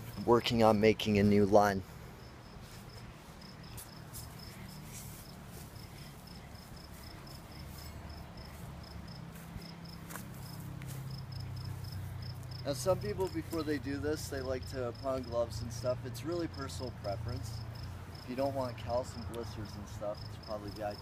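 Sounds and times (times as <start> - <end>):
insect chirping: 1.9 - 21.0.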